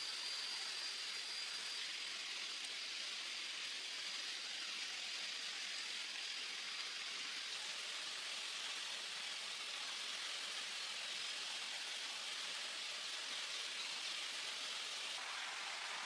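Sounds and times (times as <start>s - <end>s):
outdoor ambient hiss: 0.0s - 16.0s.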